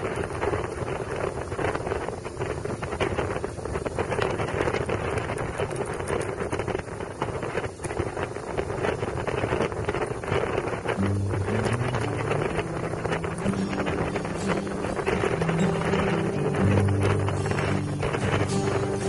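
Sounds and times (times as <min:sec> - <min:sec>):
motorcycles and road noise: 0:00.0 - 0:19.0
wind buffeting microphone: 0:00.0 - 0:19.0.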